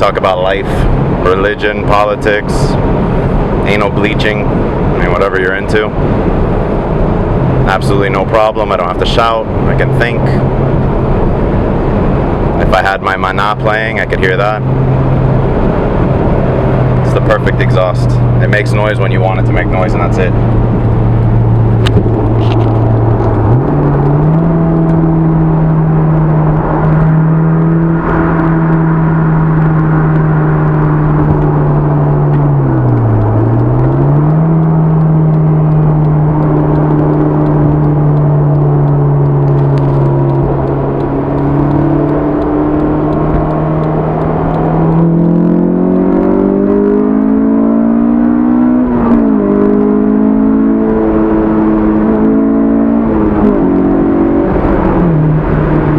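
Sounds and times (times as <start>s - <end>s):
car engine hum: 0.0s - 55.9s
road noise: 0.0s - 55.9s.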